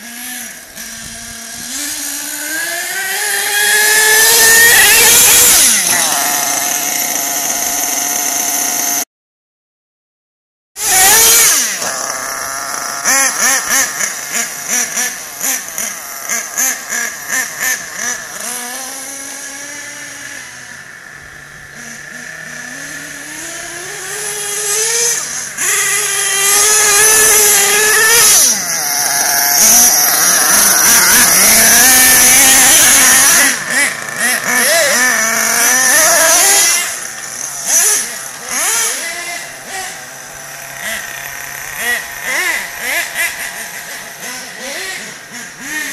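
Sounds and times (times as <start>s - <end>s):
rc truck engines revving: 0.0s - 9.1s, 10.8s - 45.9s.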